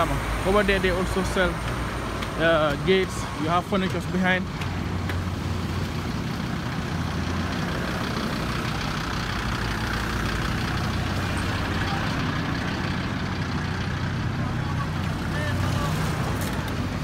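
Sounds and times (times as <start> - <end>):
road traffic passing: 0.0 - 17.0
truck engine idling: 0.0 - 17.0.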